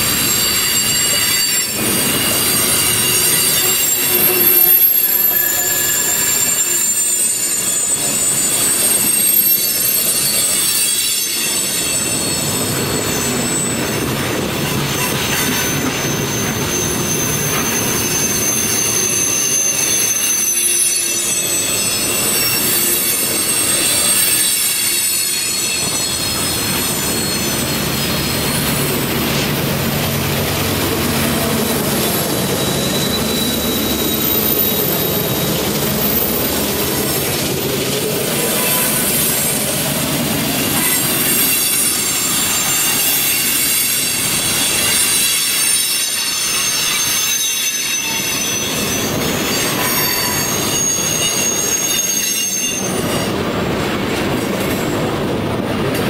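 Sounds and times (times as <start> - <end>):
freight train rolling past: 0.0 - 56.0
train wheels squealing on rail: 0.0 - 56.0.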